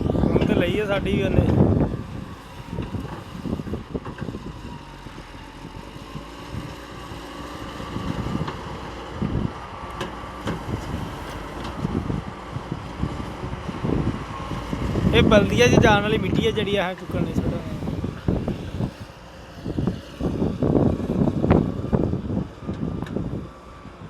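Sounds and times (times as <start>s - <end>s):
diesel engine running with whine: 0.0s - 24.0s
wind buffeting microphone: 0.0s - 24.0s.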